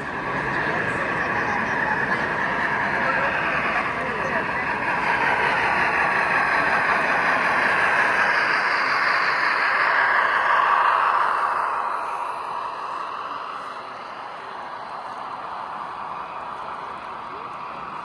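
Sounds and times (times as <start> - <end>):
model train running on track: 0.0 - 18.0.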